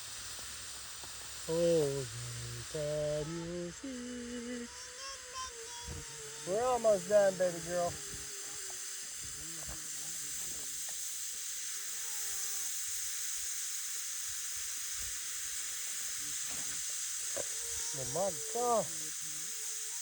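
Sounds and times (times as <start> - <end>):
smoke fireworks hissing: 0.0 - 20.0.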